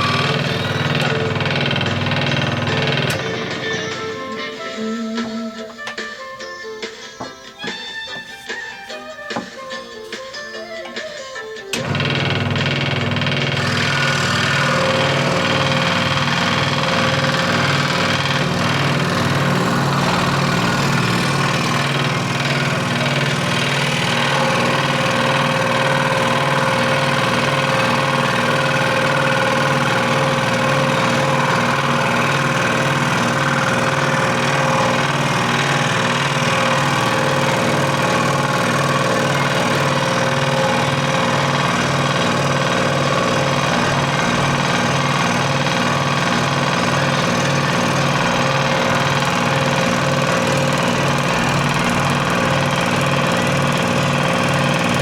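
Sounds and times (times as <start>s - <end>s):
scroll saw running: 0.0s - 5.7s, 11.8s - 55.0s.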